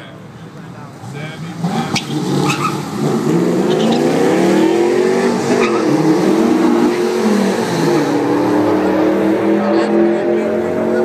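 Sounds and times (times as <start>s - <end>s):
car engines accelerating hard: 0.5s - 11.0s.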